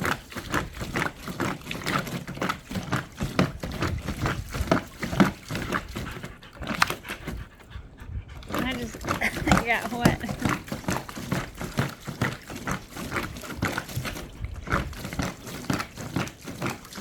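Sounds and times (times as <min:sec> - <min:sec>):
dogs splashing in water: 0:00.0 - 0:17.0.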